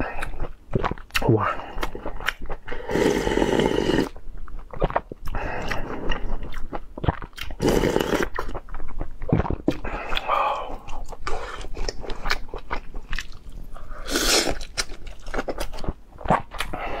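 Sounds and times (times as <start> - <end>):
person chewing meat: 0.0 - 17.0.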